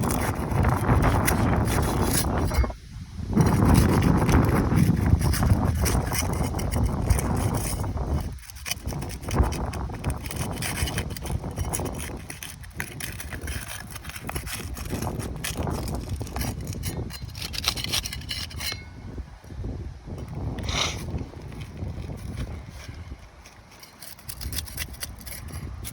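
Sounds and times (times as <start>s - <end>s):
clicks and rubbing sounds: 0.0s - 2.8s, 3.4s - 18.9s, 20.2s - 25.9s
wind rumbling on microphone: 0.0s - 25.9s.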